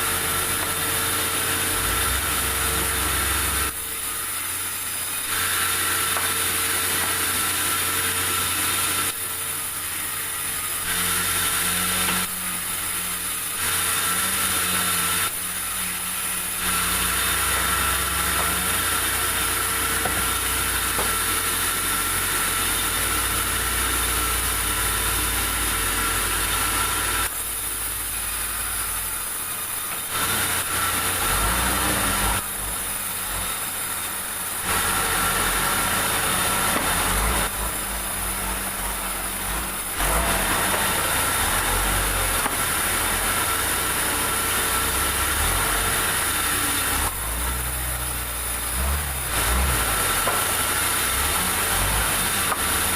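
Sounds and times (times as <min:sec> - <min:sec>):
sawmill saw cutting wood: 0:00.0 - 0:52.9.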